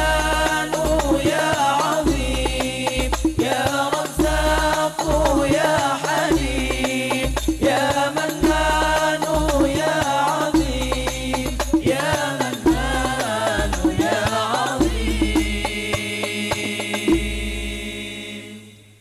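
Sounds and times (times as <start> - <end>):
hand-struck frame drums: 0.0 - 17.8
men singing devotional chant: 0.0 - 19.0.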